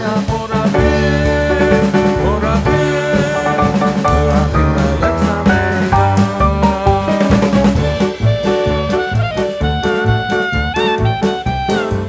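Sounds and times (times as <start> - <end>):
band music led by guitar: 0.0 - 12.0.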